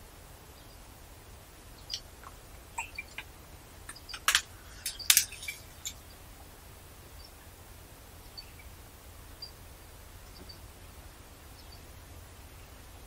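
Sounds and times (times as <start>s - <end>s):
birds chirping: 1.6s - 13.0s.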